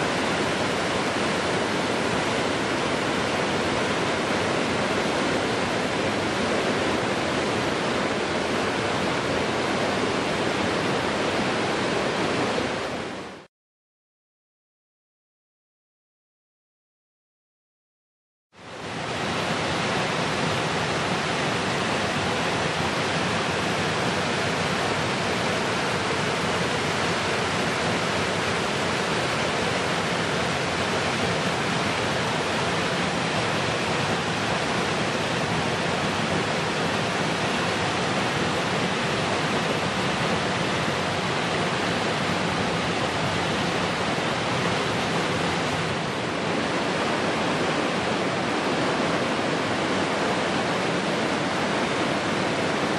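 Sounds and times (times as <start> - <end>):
water cascading over rocks: 0.0 - 13.5, 18.6 - 52.9.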